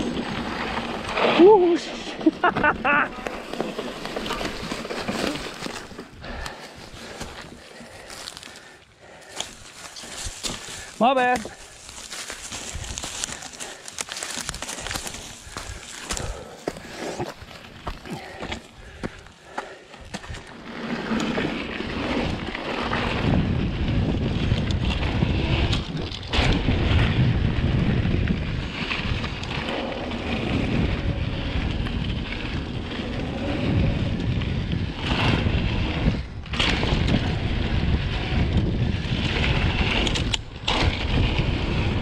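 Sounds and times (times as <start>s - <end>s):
bike tyre rumble on dirt: 0.0s - 42.0s
wind buffeting microphone: 4.4s - 20.5s, 21.4s - 42.0s.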